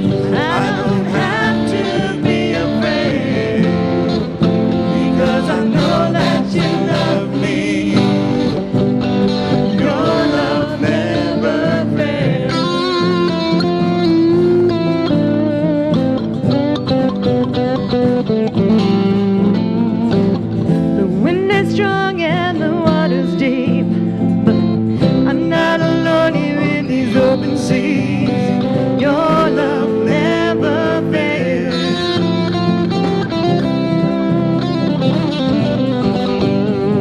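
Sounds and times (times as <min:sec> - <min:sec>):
guitars: 0:00.0 - 0:37.0
live worship band playing: 0:00.0 - 0:37.0.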